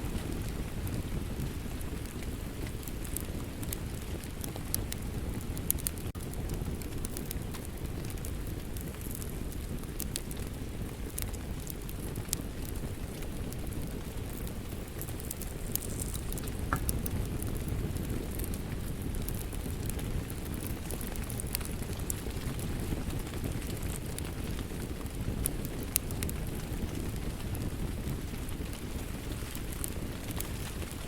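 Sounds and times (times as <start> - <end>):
rain: 0.0 - 31.0
wood fire crackling: 0.0 - 31.0.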